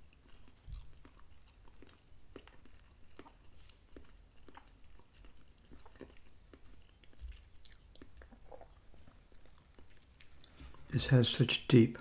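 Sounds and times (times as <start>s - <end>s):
person chewing: 0.0s - 10.9s.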